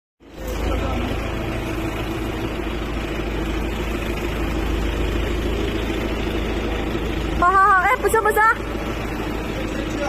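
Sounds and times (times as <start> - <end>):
heavy engine running: 0.2 - 10.0.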